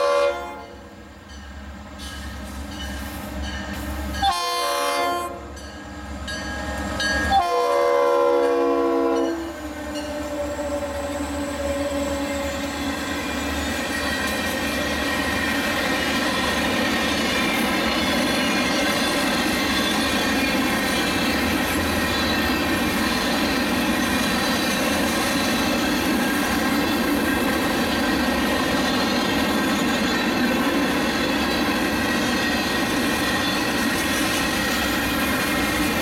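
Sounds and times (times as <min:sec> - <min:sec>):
steel train wheels on rail: 0:00.0 - 0:36.0.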